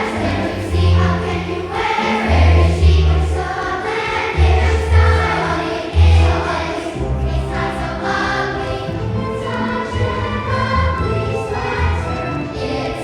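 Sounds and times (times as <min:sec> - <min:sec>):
held low accompaniment notes: 0:00.0 - 0:12.9
children's choir singing: 0:00.0 - 0:13.0.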